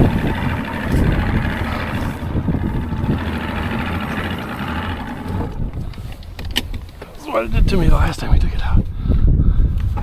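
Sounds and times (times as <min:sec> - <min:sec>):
vehicle engine idling: 0:00.0 - 0:08.1.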